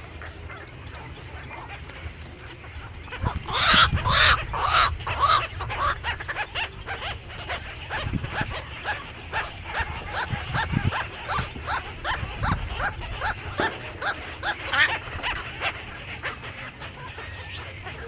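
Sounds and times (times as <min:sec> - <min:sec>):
birds squawking harshly: 0:00.0 - 0:18.0.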